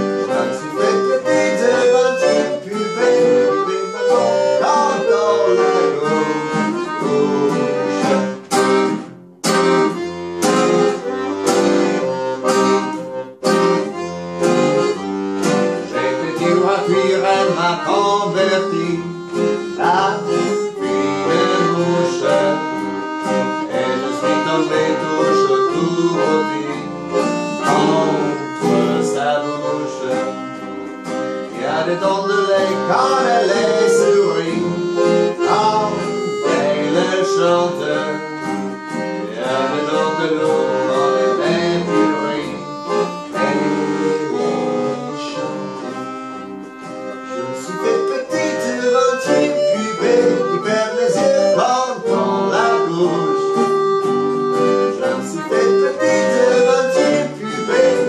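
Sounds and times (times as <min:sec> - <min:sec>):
accordion chords and melody: 0:00.0 - 0:58.0
acoustic guitar strumming: 0:00.0 - 0:58.0.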